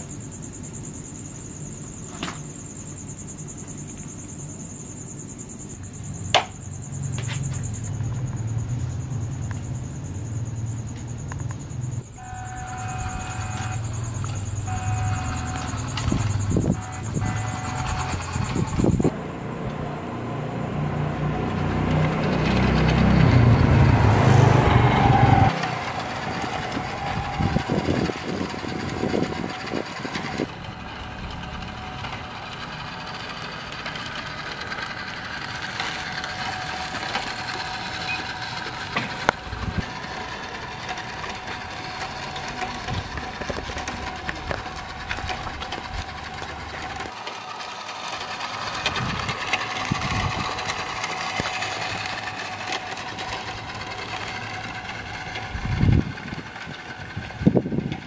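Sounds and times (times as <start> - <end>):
small electric motor whining: 0.0 - 19.9, 20.5 - 58.0
tyres on paving stones: 1.2 - 19.9, 20.8 - 58.0.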